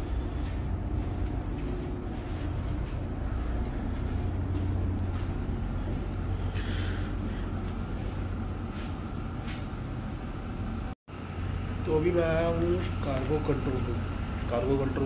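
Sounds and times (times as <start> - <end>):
low hum of ship machinery: 0.0 - 15.0.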